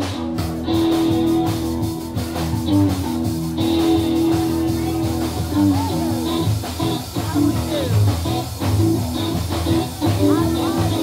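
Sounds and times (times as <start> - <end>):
electric guitar: 0.0 - 11.0
live blues band: 0.0 - 11.0.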